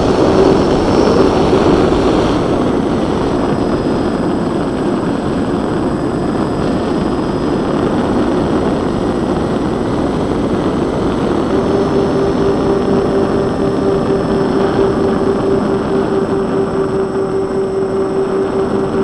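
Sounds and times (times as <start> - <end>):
propellers humming: 0.0 - 19.0
wind rushing over microphone: 0.0 - 19.0.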